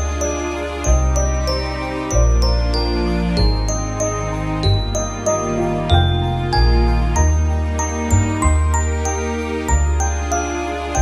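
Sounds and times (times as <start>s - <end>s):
held bass notes: 0.0s - 10.2s
chiming melody: 0.0s - 11.0s.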